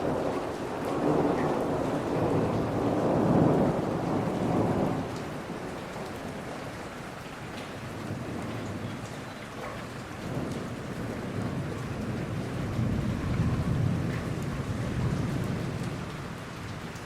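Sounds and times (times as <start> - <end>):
low rumble of thunder: 0.0 - 17.0
steady rain in a forest: 0.0 - 17.0.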